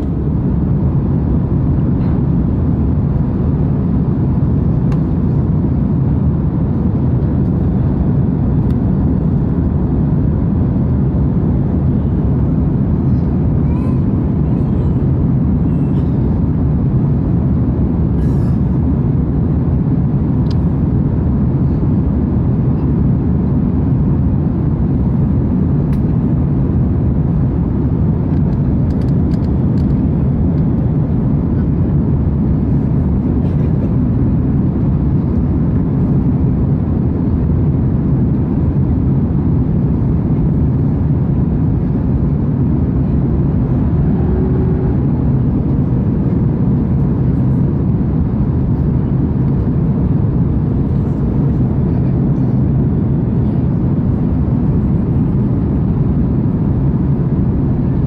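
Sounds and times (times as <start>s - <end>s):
airliner cabin roar in flight: 0.0s - 58.0s.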